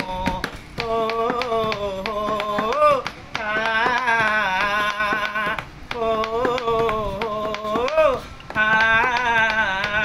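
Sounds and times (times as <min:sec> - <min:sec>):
fingers tapping on bench: 0:00.0 - 0:10.0
man singing unaccompanied: 0:00.0 - 0:10.0.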